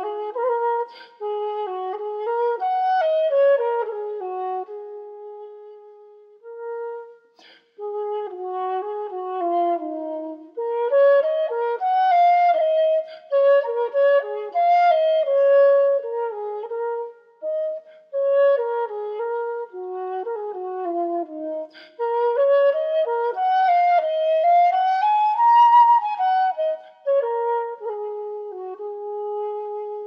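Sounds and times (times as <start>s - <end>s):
wind instrument melody: 0.0s - 30.0s.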